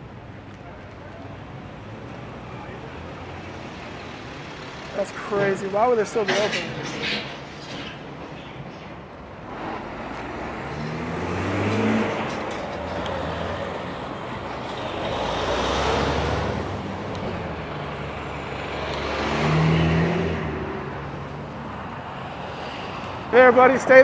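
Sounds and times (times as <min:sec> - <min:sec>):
vehicles passing close by: 0:00.0 - 0:24.0.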